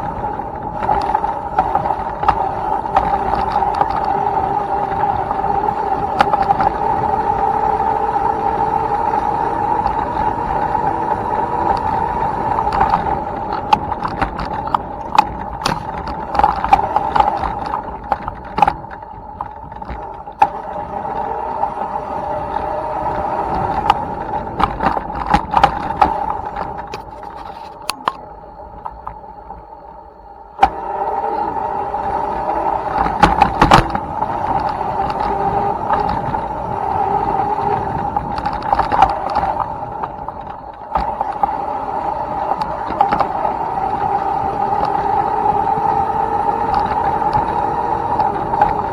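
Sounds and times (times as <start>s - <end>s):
electric motor whining: 0.0s - 29.6s, 30.6s - 48.9s.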